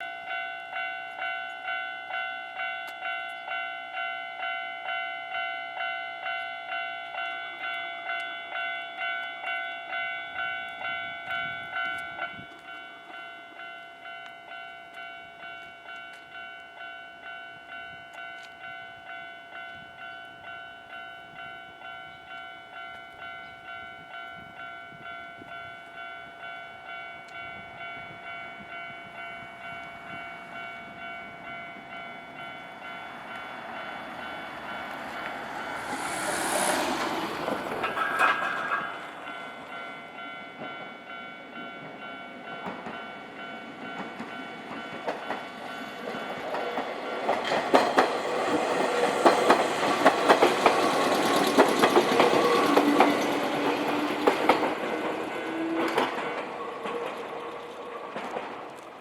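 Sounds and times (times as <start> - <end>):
level crossing warning bell ringing: 0.0 - 59.0.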